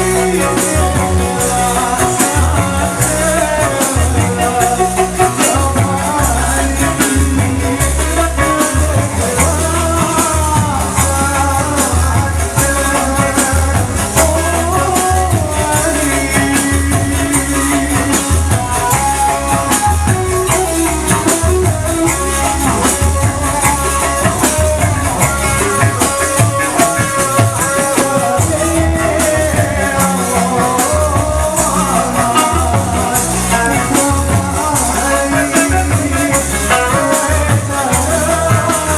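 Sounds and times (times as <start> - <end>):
loud live band music: 0.0 - 38.9
pounding drum beat: 0.0 - 38.9
rattle-like percussion: 0.0 - 38.9.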